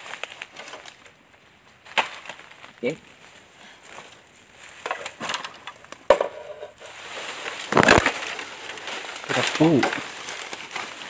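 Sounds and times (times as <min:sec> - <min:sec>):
dry leaves and stems crunching: 0:00.0 - 0:11.0.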